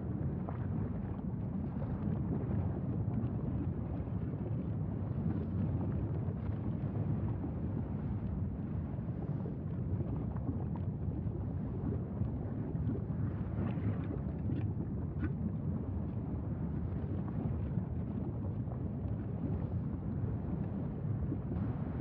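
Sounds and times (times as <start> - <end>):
faint crackles: 0.1 - 22.0.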